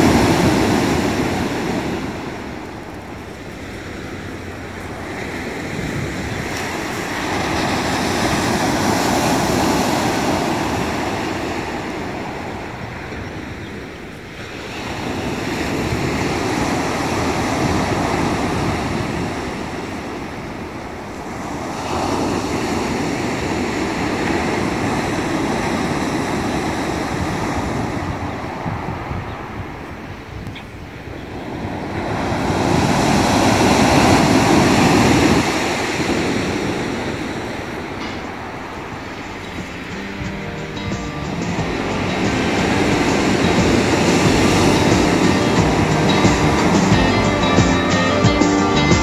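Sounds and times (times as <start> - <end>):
waves breaking on pebble beach: 0.0 - 30.1, 31.0 - 39.8, 41.7 - 46.9.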